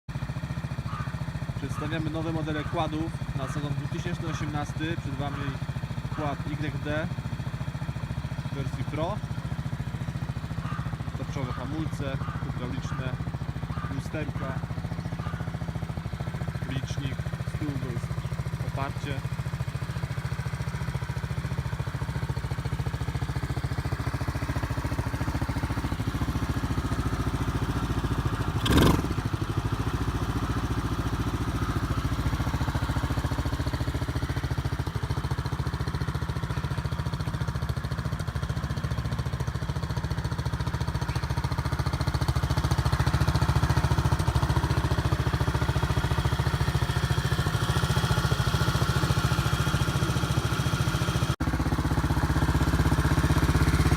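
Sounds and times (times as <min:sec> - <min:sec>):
quad engine idling: 0:00.1 - 0:53.9.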